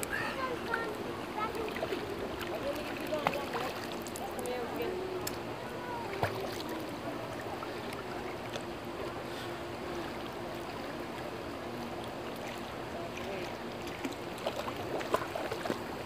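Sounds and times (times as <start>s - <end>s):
faint steady hum: 0.0s - 16.0s
pool water splashing: 0.0s - 16.0s.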